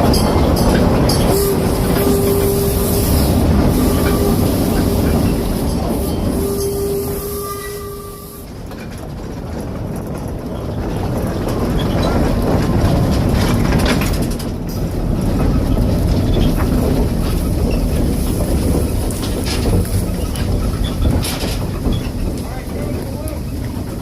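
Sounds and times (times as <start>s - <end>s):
train rumbling along track: 0.0s - 24.0s.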